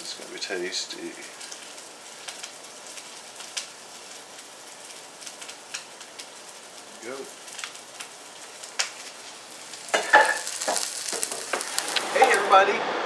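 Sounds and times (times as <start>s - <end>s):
food sizzling in a hot pan: 0.0s - 12.7s
crackling pops: 1.1s - 12.5s.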